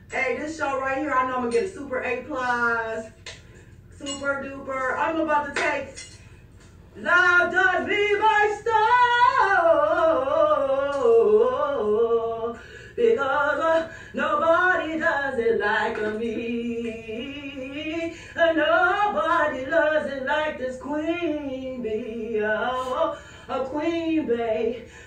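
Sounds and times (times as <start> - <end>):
woman singing unaccompanied: 0.0 - 3.2, 4.0 - 6.0, 7.0 - 25.0.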